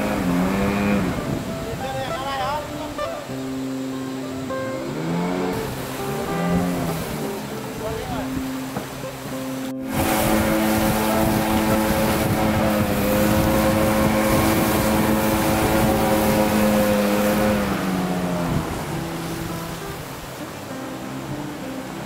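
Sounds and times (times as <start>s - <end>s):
small boat motor running: 0.0s - 1.8s, 3.3s - 22.0s
rushing churned water: 0.0s - 22.0s
wind: 0.0s - 22.0s.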